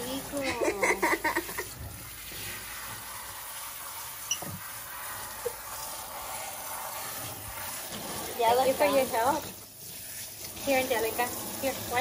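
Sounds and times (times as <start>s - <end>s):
water spraying into sink: 0.0s - 12.0s.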